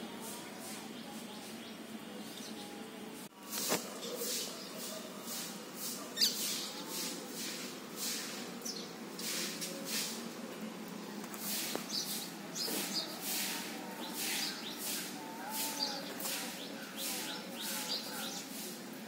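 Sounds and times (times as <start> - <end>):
birds chirping: 0.0 - 18.8.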